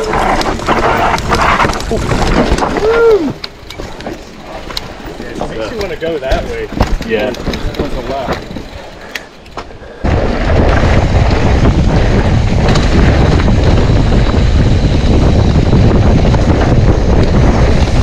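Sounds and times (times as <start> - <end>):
bike knocking over rough ground: 0.0 - 8.8, 9.5 - 18.0
wind buffeting microphone: 0.0 - 18.0.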